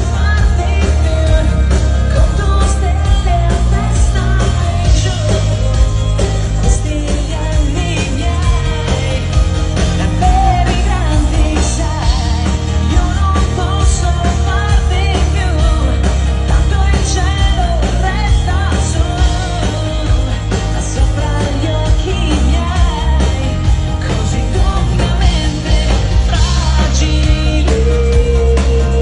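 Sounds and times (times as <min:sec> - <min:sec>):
live pop band: 0:00.0 - 0:29.0
woman singing: 0:00.0 - 0:29.0.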